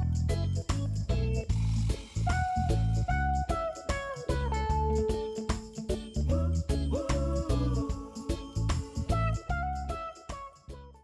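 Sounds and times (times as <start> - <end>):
music with beat and plucked strings: 0.0 - 10.9.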